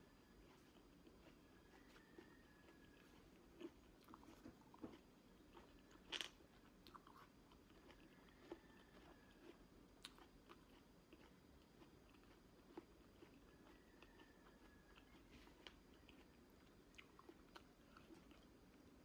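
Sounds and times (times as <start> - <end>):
person chewing juicy fruit: 0.0 - 19.0.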